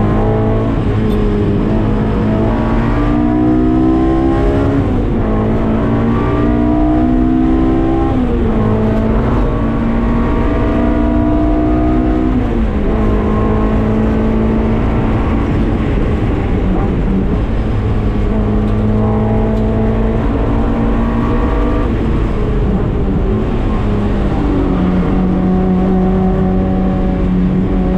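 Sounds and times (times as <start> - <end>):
car engine at high revs: 0.0 - 27.9.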